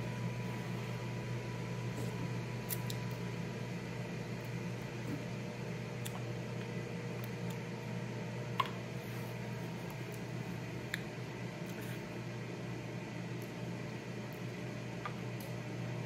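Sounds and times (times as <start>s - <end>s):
low kitchen room hum: 0.0s - 16.0s.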